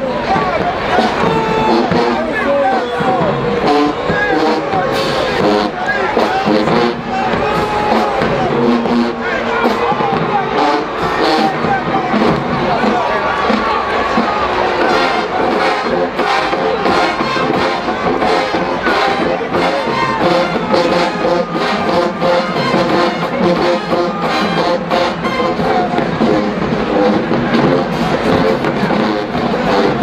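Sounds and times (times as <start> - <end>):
drumline beat: 0.0 - 30.0
brass section playing: 0.1 - 30.0.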